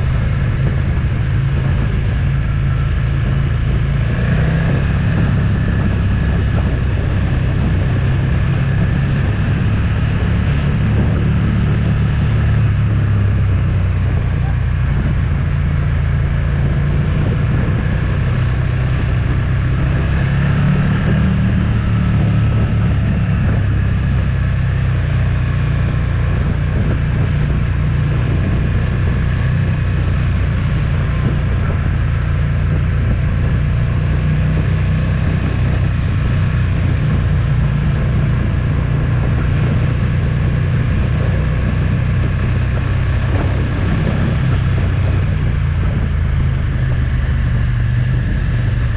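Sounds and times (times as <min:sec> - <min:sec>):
motorcycle engine running: 0:00.0 - 0:48.9
wind noise on microphone: 0:00.0 - 0:48.9.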